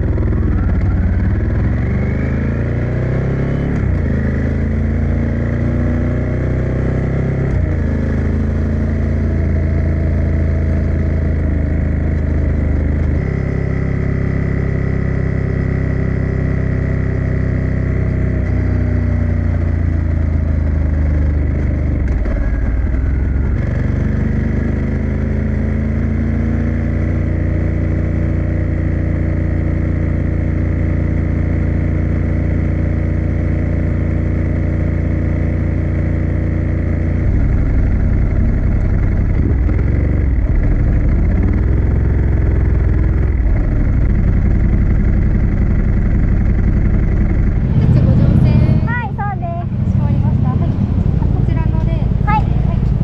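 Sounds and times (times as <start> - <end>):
motorcycle engine shifting gears: 0.0 - 53.0.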